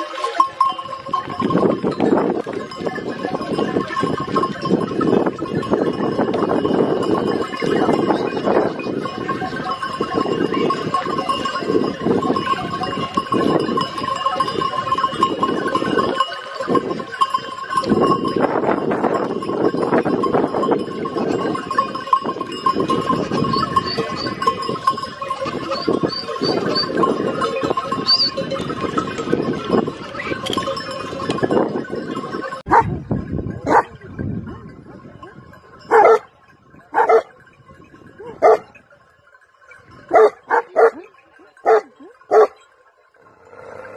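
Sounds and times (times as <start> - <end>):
animal bells ringing: 0.0 - 43.9.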